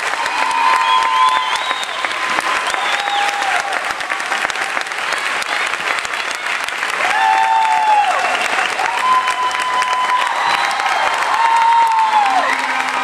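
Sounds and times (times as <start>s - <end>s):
crowd clapping and cheering: 0.0s - 13.0s.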